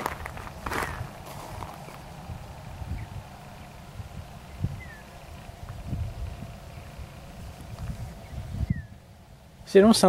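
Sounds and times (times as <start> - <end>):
distant low rumble: 0.0 - 10.0
wind gusting on microphone: 0.0 - 10.0.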